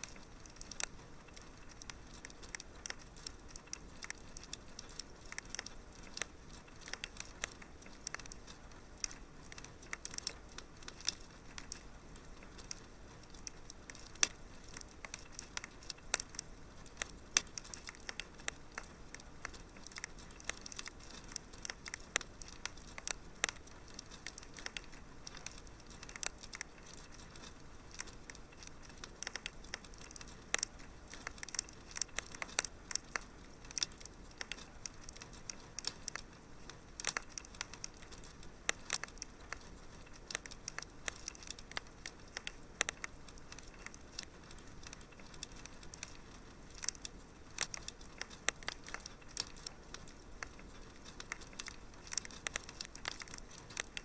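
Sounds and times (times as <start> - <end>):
fire crackling: 0.0 - 54.0
soft steady hiss: 0.0 - 54.0.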